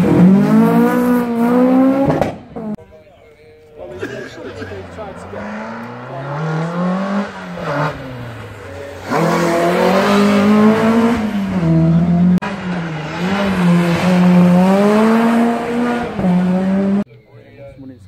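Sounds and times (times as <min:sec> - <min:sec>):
rally car engines revving: 0:00.0 - 0:02.8, 0:03.9 - 0:17.1.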